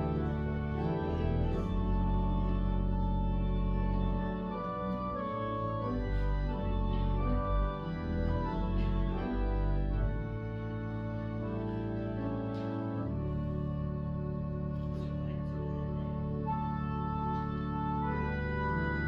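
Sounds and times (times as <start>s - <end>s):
deep bass line: 0.0s - 19.0s
organ playing sustained chords: 0.0s - 19.0s.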